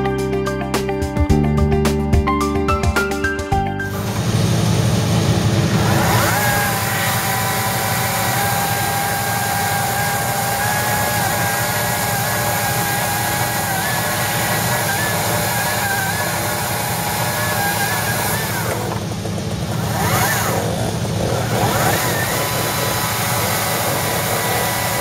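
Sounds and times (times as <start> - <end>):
electric chainsaw cutting log: 3.9 - 25.0.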